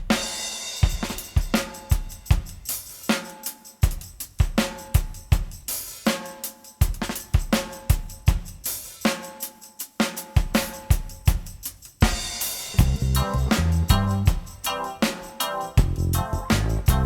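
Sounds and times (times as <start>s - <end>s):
drum kit beat: 0.0s - 17.0s.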